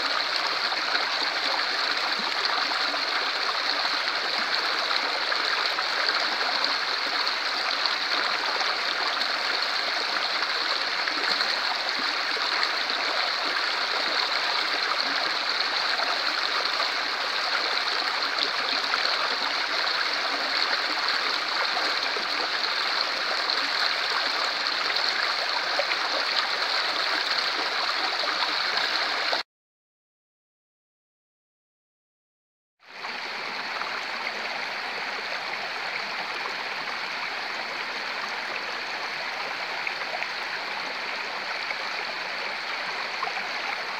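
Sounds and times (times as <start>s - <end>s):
stream flowing over rocks: 0.0s - 29.4s, 32.9s - 43.9s.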